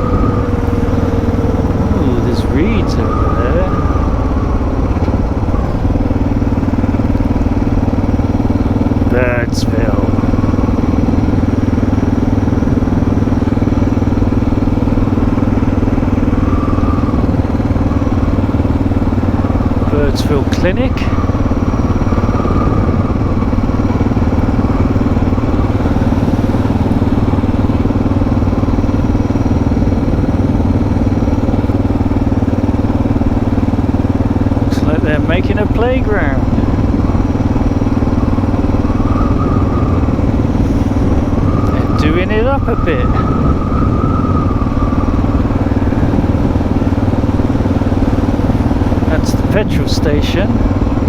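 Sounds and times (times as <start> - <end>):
faint high whine: 0.0 - 50.8
motorcycle engine running: 0.0 - 51.0.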